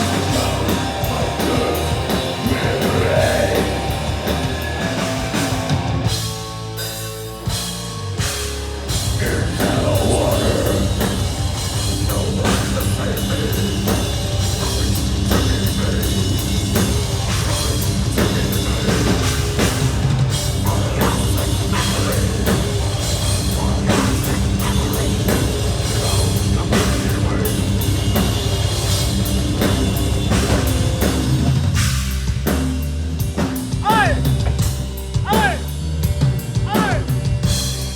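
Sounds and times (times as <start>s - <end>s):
bass guitar: 0.0s - 37.9s
distorted guitars: 0.0s - 37.9s
rapid drumming: 0.0s - 37.9s.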